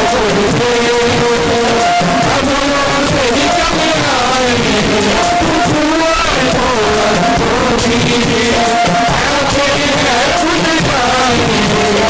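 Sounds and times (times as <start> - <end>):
congregation clapping along: 0.0 - 12.0
congregation singing worship song: 0.0 - 12.0.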